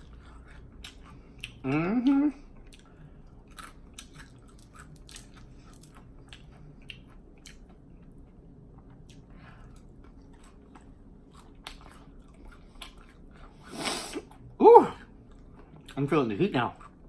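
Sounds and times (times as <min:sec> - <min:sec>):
open-mouthed chewing and lip-smacking: 0:00.0 - 0:17.0.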